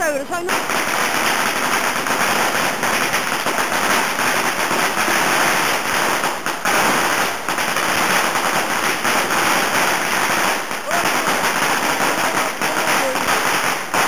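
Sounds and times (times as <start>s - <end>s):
firecrackers rattling: 0.0s - 14.0s.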